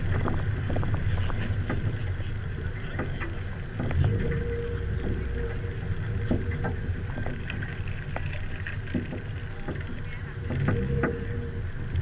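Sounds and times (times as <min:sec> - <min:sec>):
car engine running: 0:00.0 - 0:12.0
wind rumbling on microphone: 0:00.0 - 0:12.0.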